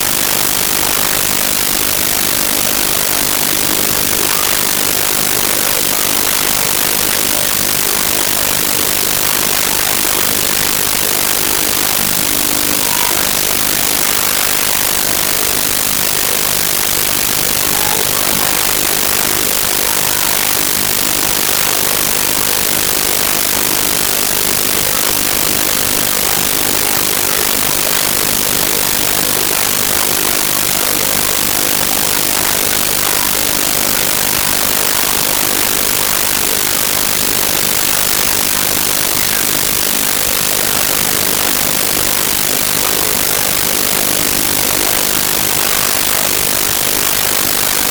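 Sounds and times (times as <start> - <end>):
static hiss: 0.0 - 47.9.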